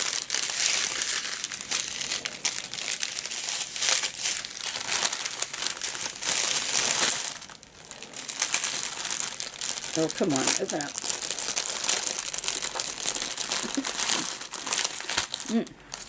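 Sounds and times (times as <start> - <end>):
plastic packets crinkling: 0.0 - 16.0.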